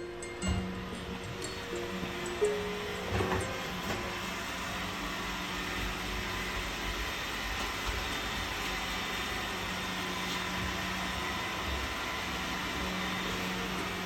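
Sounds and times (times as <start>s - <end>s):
fan appliance whirring: 0.0s - 14.0s.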